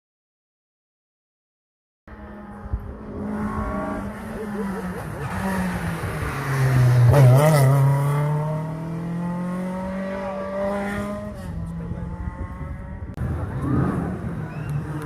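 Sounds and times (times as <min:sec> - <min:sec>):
rally car engine revving: 0:02.1 - 0:15.0.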